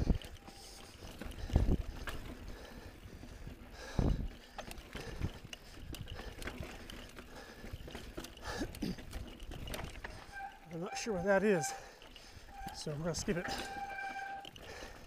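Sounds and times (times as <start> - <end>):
bike rattling and clicking: 0.0 - 15.0.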